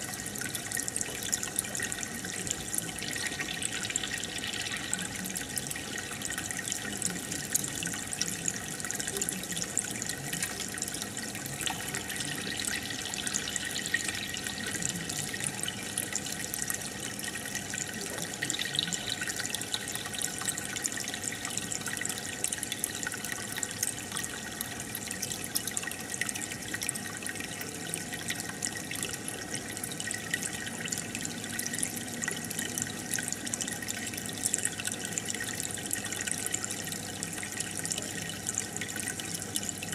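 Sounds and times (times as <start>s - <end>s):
small drips and pops: 0.0s - 39.9s
water trickling and bubbling: 0.0s - 39.9s.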